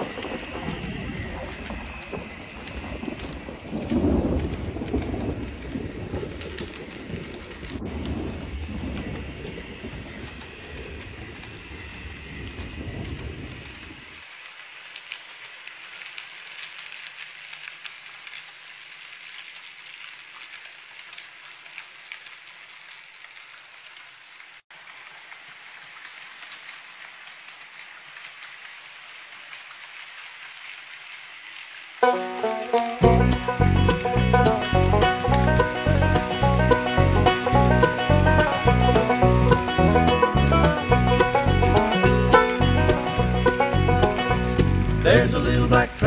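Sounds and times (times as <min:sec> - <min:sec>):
model train motor rumble: 0:00.0 - 0:23.6, 0:32.1 - 0:46.0
small metal wheels hissing on rails: 0:00.0 - 0:46.0.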